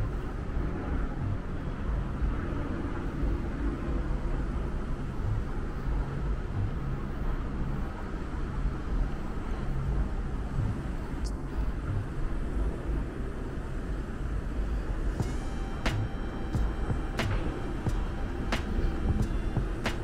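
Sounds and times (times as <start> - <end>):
road traffic rumble on bridge: 0.0 - 20.0.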